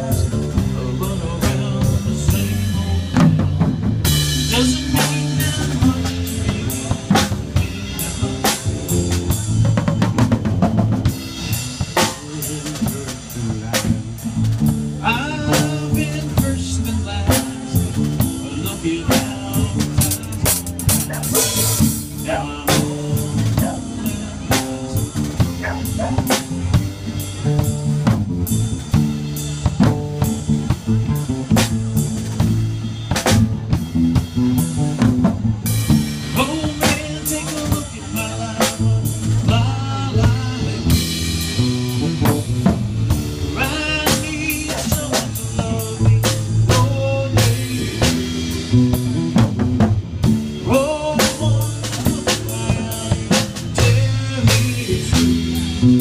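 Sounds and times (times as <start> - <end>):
drum beat: 0.0 - 56.0
guitar playing: 0.0 - 56.0.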